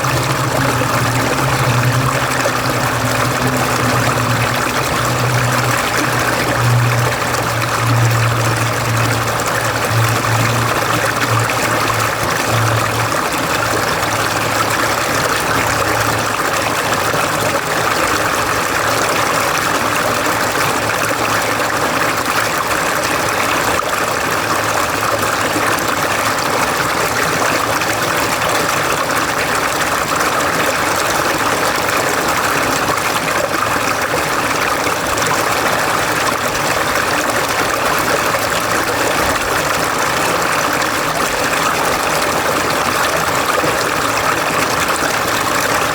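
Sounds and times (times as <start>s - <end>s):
stream water splashing over rocks: 0.0s - 45.9s.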